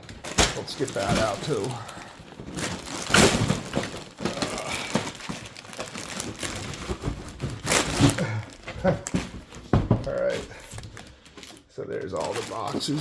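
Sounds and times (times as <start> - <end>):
plastic bags and cardboard crinkling: 0.0 - 13.0.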